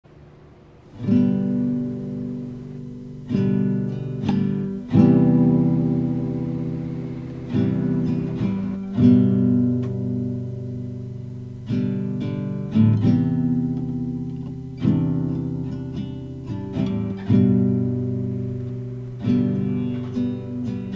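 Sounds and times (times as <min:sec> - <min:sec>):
slow acoustic guitar strumming: 0:00.1 - 0:20.9.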